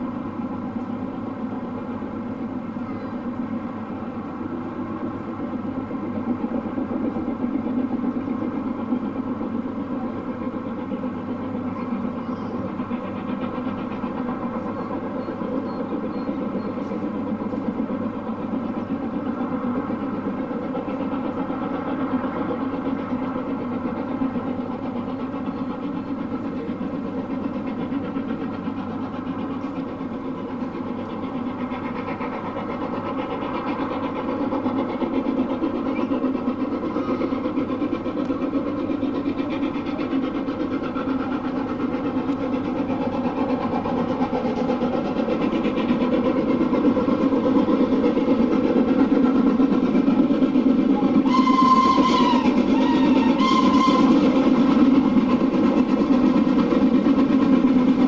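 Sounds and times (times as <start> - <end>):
steam locomotive exhaust beat: 0.0 - 58.0.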